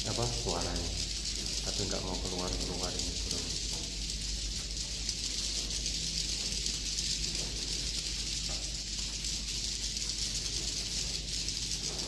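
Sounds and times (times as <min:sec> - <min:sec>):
swiftlets twittering and clicking: 0:00.0 - 0:12.0.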